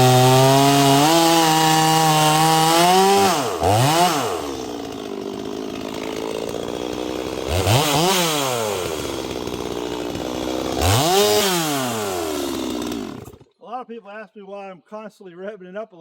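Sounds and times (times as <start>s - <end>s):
chainsaw idling and revving: 0.0s - 13.5s.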